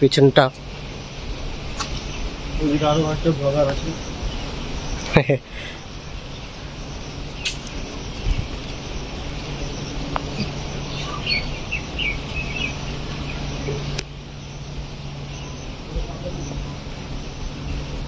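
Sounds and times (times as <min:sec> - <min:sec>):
steady low hum: 0:00.0 - 0:18.0
small bird chirping: 0:00.4 - 0:18.0.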